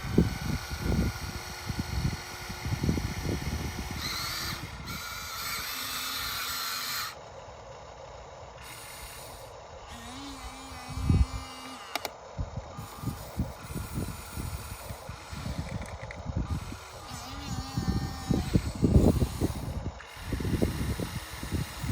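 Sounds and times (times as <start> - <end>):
toy excavator motor whining: 0.0 - 21.9.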